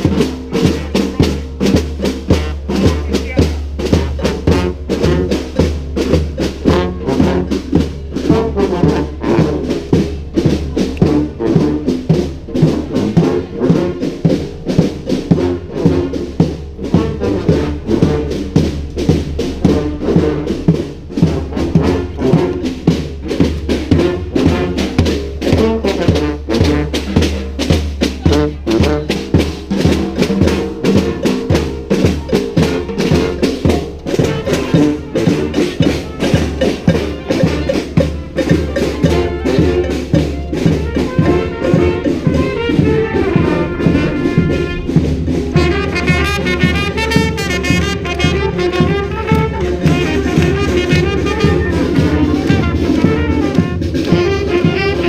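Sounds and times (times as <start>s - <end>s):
brass band horns: 0.0s - 55.0s
steady drum beat: 0.0s - 55.0s.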